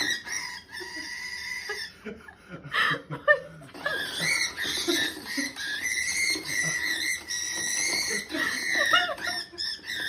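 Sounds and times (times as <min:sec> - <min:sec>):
pet bird screeching: 0:00.0 - 0:01.9, 0:03.8 - 0:10.0.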